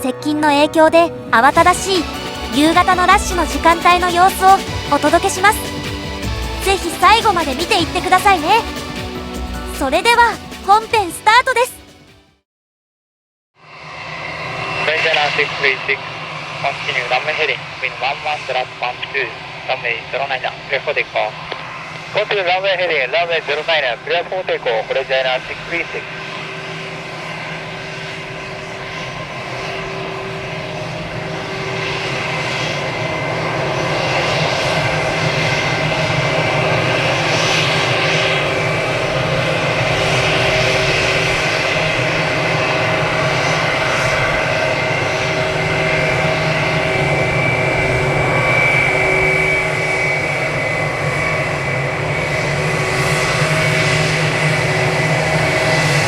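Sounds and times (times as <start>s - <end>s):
jet engines at takeoff power: 0.0s - 10.9s, 13.6s - 56.0s.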